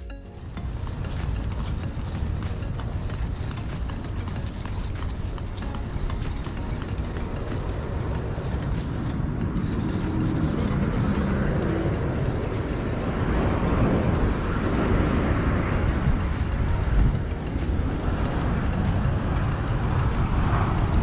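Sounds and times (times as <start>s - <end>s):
jet airliner flying overhead: 0.0s - 21.0s.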